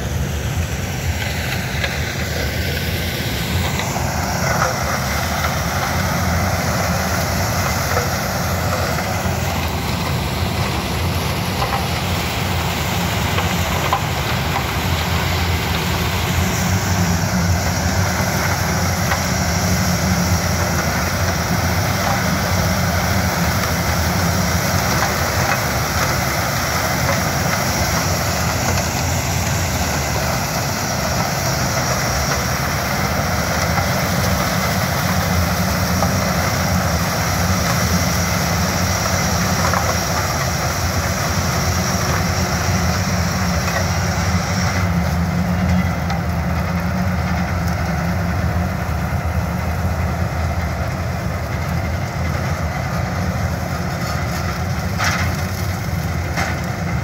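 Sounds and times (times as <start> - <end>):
harvester engine drone: 0.0 - 57.0
high machine whine: 0.0 - 57.0.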